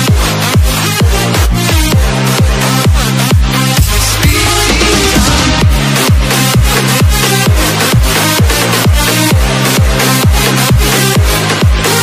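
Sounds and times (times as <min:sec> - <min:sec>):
deep pitch-dropping kick drum: 0:00.0 - 0:12.0
electronic dance music: 0:00.0 - 0:12.0
sustained bass notes: 0:00.0 - 0:12.0.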